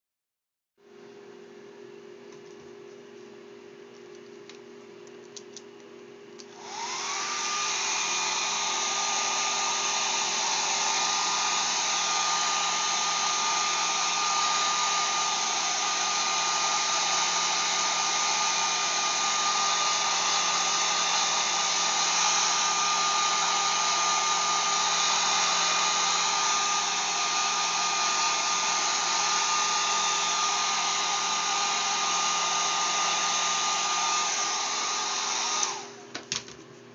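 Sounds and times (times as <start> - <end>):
hair dryer running: 6.4 - 36.2.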